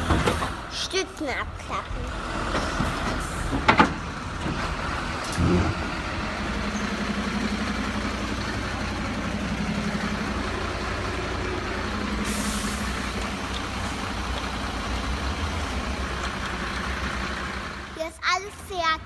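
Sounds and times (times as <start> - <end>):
recorded truck engine idling: 0.0 - 19.0.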